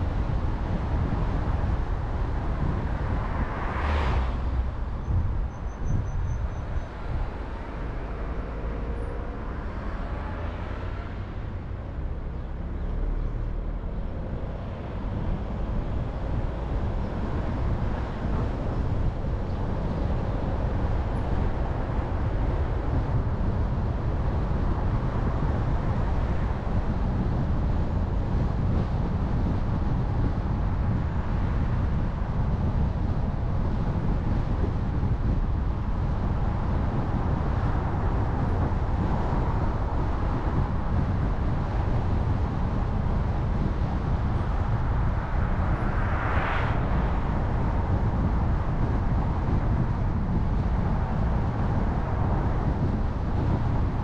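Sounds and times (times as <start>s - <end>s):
car engine rumble: 0.0s - 54.0s
tyre noise on road: 0.0s - 54.0s.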